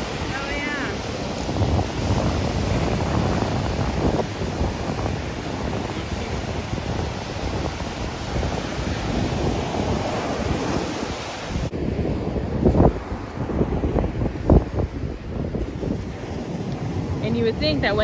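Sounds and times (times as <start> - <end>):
ocean surf washing onto beach: 0.0 - 18.0
wind gusting across microphone: 0.0 - 18.0.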